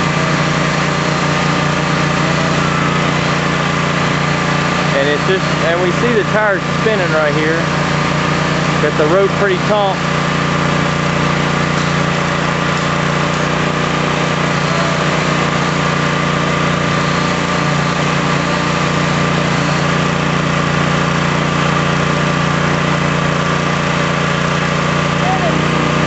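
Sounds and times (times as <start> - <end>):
vehicle engine running steadily: 0.0 - 26.0.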